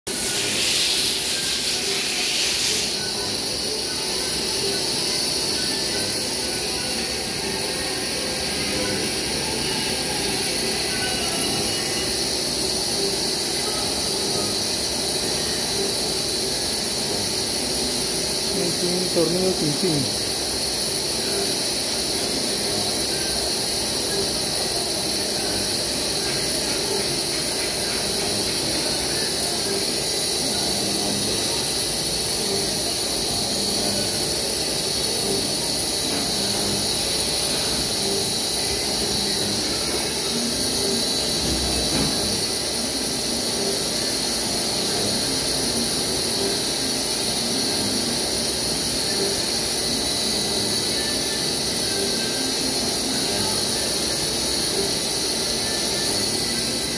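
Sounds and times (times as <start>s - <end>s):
coolant jet hiss: 0.1s - 56.9s
milling machine whine: 0.1s - 56.9s.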